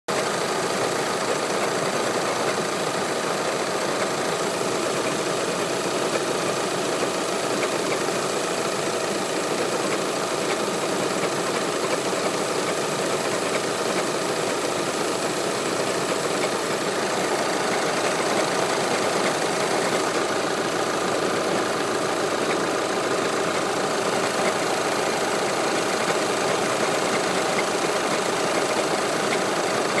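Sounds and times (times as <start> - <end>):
diesel engine idling: 0.3 - 30.0.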